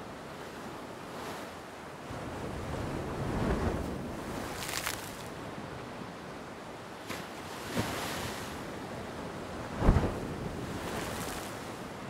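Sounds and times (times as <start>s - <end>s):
ocean surf washing on beach: 0.0s - 6.3s, 7.0s - 12.0s.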